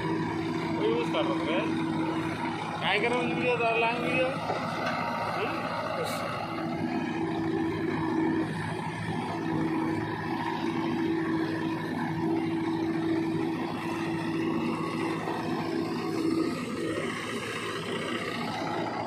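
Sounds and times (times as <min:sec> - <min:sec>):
diesel engine running under load: 0:00.0 - 0:19.0.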